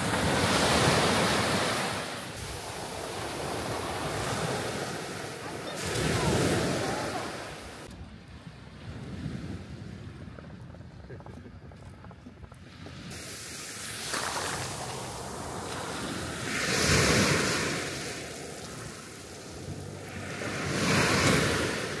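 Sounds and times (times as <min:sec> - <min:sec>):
small waves washing on beach: 0:00.0 - 0:10.5, 0:11.2 - 0:22.0.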